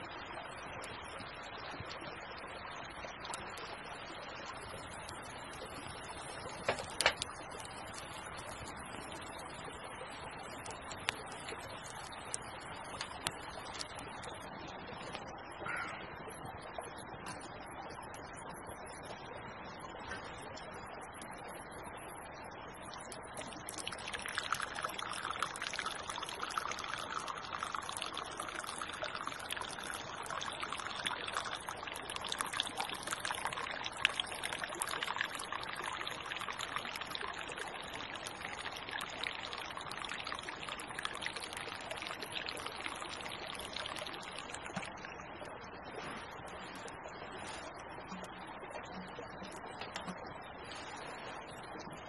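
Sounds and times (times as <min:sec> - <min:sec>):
creek water trickling and splashing: 0:00.0 - 0:52.0.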